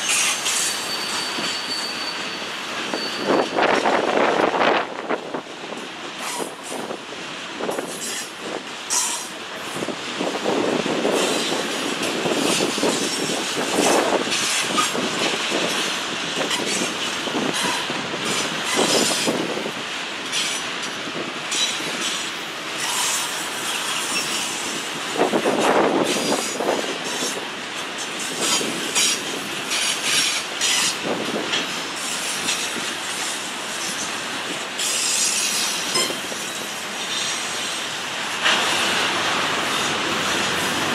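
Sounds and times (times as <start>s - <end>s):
wheels squealing on rails: 0.0s - 5.0s, 6.2s - 7.0s, 7.6s - 40.9s
freight train rolling past: 0.0s - 40.9s.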